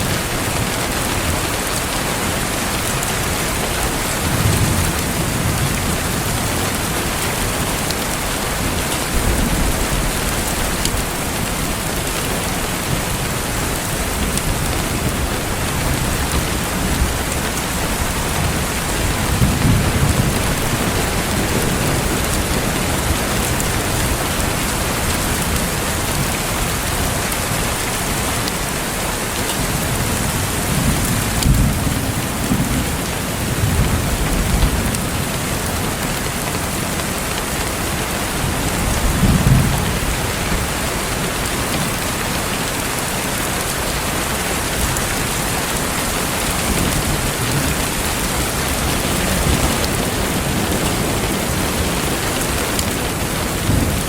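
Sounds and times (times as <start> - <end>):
thunder rumbles: 0.0 - 28.6, 29.5 - 36.0, 37.5 - 42.2, 44.3 - 54.0
steady rain: 0.0 - 54.0.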